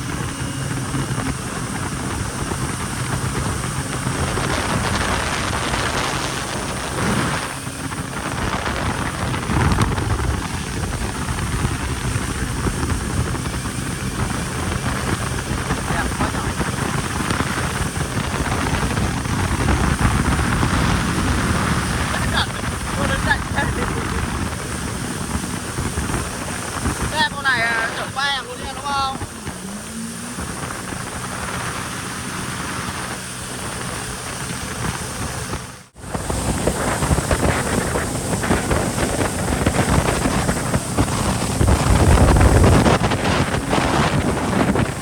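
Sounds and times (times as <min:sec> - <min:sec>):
jet ski engine running: 0:00.0 - 0:45.0
wind rushing over microphone: 0:00.0 - 0:45.0.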